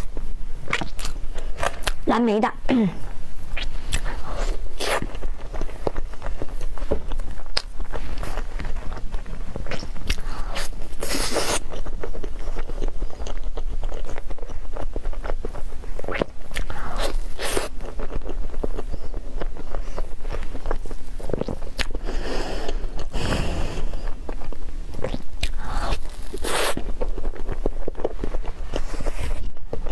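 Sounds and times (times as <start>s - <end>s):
mouth biting and chewing: 0.7s - 2.0s, 3.5s - 29.9s.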